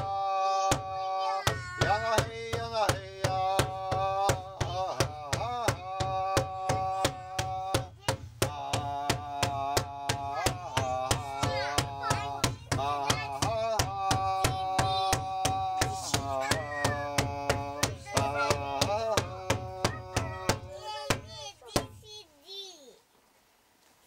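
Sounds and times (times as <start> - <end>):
large drum struck with beater: 0.0 - 22.0
person singing a chant: 0.0 - 22.0.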